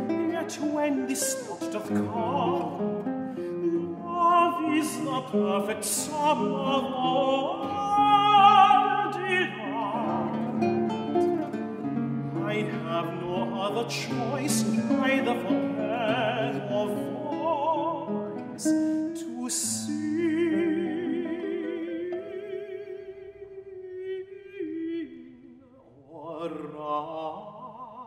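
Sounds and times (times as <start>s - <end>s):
classical guitar plucking: 0.0s - 25.9s
tenor singing with vibrato: 0.0s - 28.0s.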